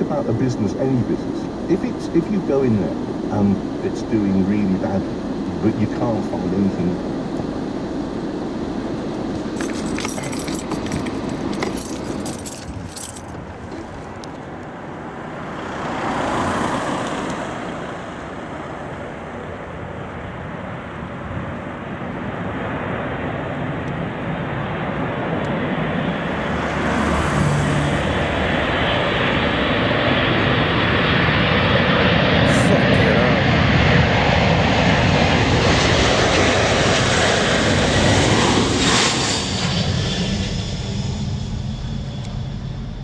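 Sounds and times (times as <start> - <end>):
road traffic passing: 0.0 - 43.0
steady traffic roar: 0.0 - 43.0.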